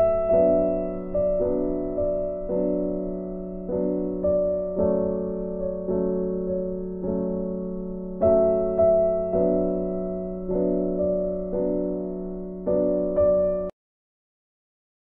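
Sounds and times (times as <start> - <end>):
gentle piano chords: 0.0 - 13.7.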